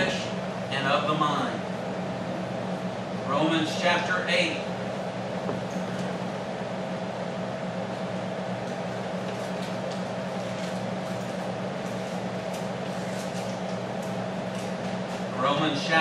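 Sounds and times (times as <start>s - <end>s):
ventilation hum: 0.0s - 16.0s.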